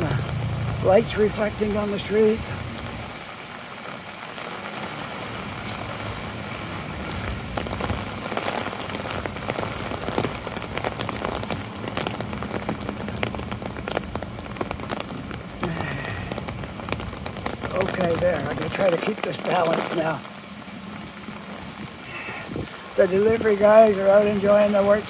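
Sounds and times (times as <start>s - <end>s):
rain hissing on wet pavement: 0.0s - 25.0s
raindrops tapping on umbrella: 0.0s - 25.0s.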